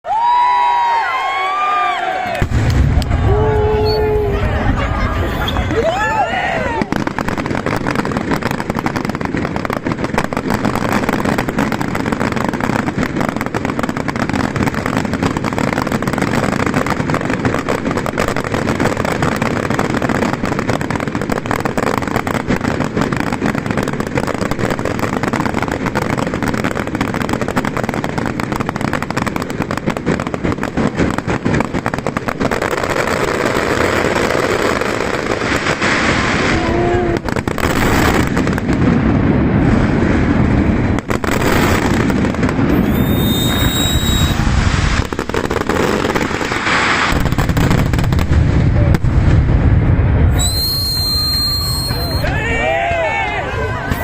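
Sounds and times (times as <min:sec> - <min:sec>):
fireworks bursts and crackle: 0:00.1 - 0:54.0.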